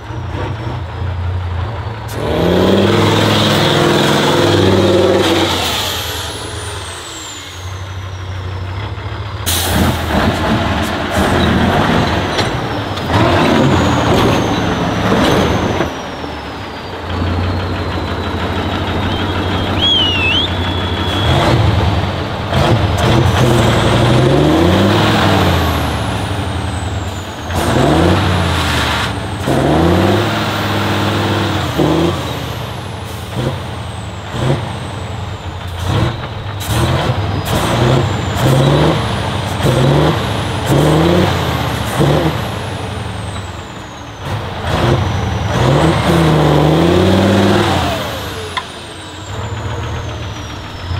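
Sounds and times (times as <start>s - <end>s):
truck diesel engine revving: 0.0s - 50.9s.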